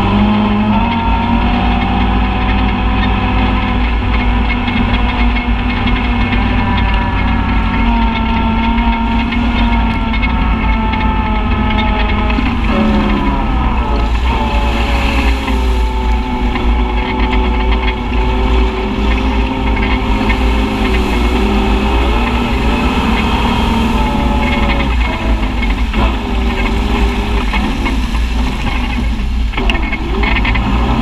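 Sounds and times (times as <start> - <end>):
utility vehicle engine running: 0.0 - 31.0.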